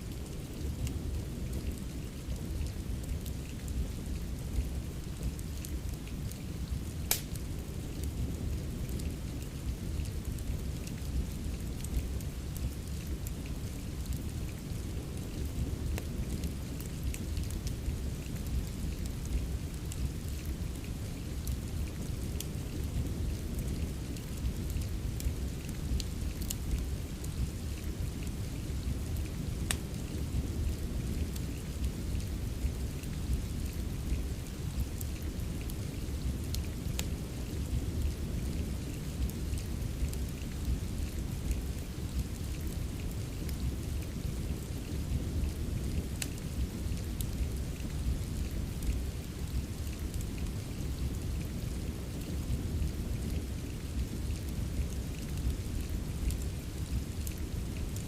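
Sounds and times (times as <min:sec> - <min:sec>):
soft rain hiss: 0:00.0 - 0:58.0
fire crackling and popping: 0:00.1 - 0:58.0.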